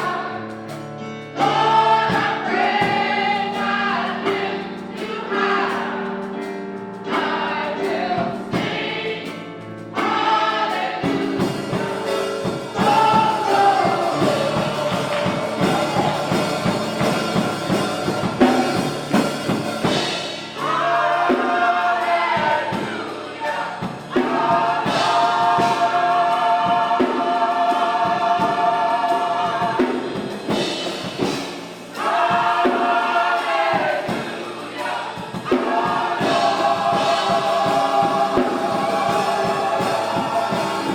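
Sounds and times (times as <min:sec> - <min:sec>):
choir singing gospel music: 0:00.0 - 0:40.9.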